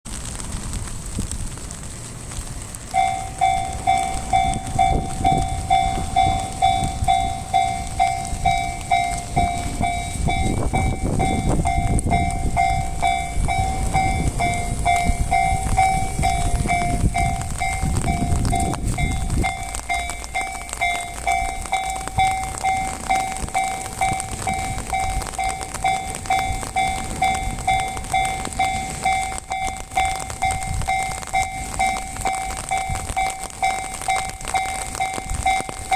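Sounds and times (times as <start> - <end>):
train rumbling past: 0.1 - 35.9
level crossing warning bell: 2.9 - 35.9.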